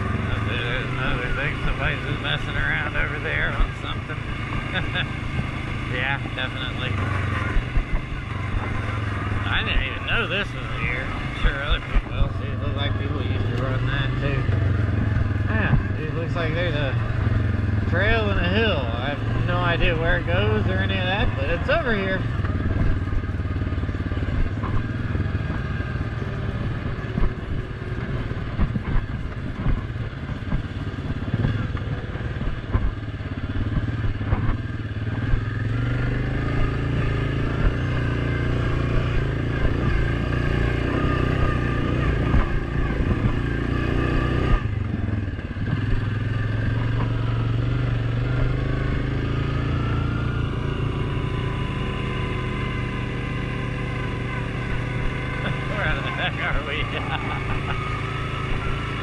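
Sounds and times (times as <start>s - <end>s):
vehicle clattering over rough ground: 0.0s - 50.8s
off-road vehicle engine running: 0.0s - 59.0s.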